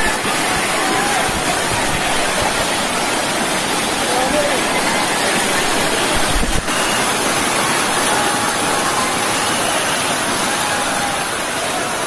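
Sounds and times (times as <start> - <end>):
stream running over rocks: 0.0 - 12.0
waterfall rushing: 0.0 - 12.0.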